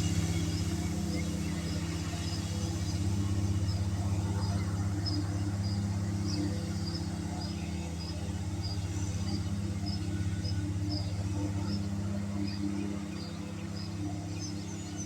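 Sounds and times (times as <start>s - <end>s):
lawn mower engine cutting grass: 0.0s - 15.0s.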